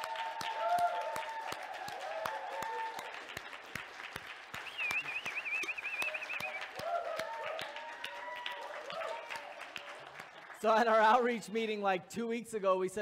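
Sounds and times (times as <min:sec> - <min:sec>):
cheering: 0:00.0 - 0:11.1
congregation applauding: 0:00.0 - 0:11.6.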